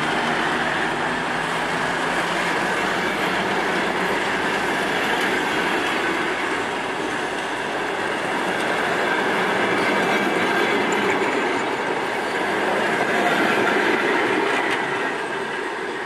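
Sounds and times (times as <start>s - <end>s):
diesel locomotive drone: 0.0s - 16.0s
train wheels on rails: 0.0s - 16.0s.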